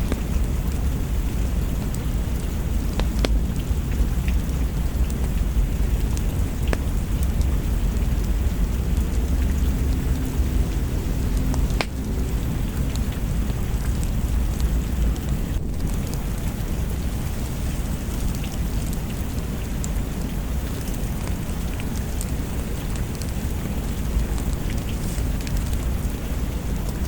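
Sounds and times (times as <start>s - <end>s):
log fire crackling: 0.0s - 27.0s
low thunder rumble: 0.0s - 27.0s
steady rain: 0.0s - 27.0s.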